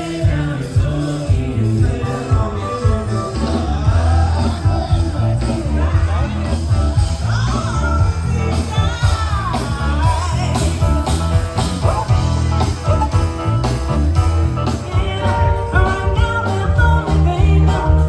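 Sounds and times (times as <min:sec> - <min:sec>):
person singing: 0:00.0 - 0:12.2, 0:14.6 - 0:18.0
live band playing soul song: 0:00.0 - 0:18.0
steady drum beat: 0:00.0 - 0:18.0.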